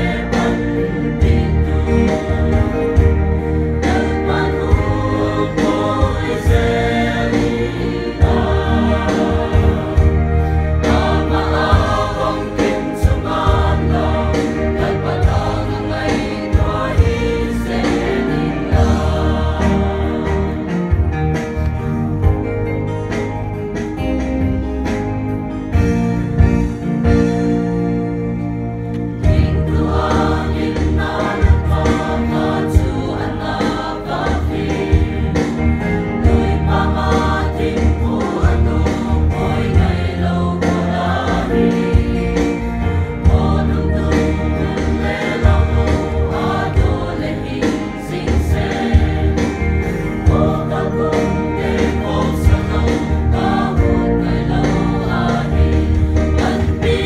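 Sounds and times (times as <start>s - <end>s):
mixed choir singing a hymn: 0.0s - 22.3s, 29.1s - 57.0s
instrumental accompaniment: 0.0s - 57.0s.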